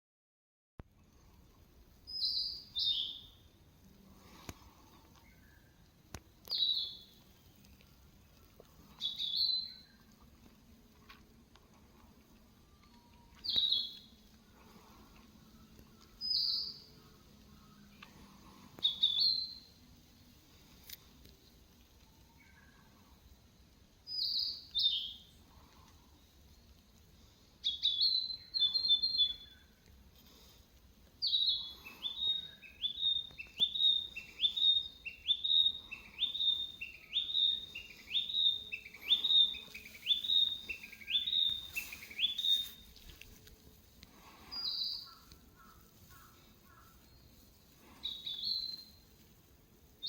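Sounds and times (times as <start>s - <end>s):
songbird chirping: 1.2s - 50.0s.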